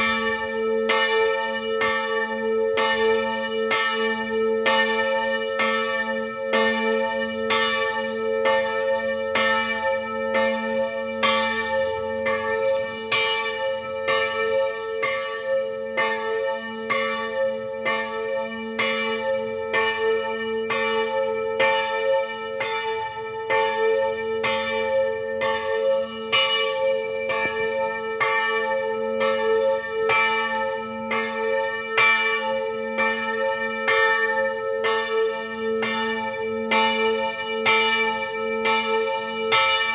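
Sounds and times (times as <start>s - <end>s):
church bells pealing: 0.0s - 39.9s
low hum from bells: 0.0s - 39.9s.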